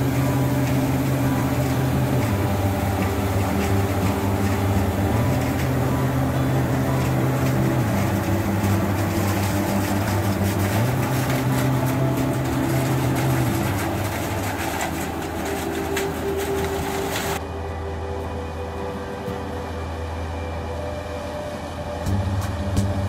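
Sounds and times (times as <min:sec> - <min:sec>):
crackling hiss of stalks: 0:00.0 - 0:19.8
combine harvester engine running: 0:00.0 - 0:23.0.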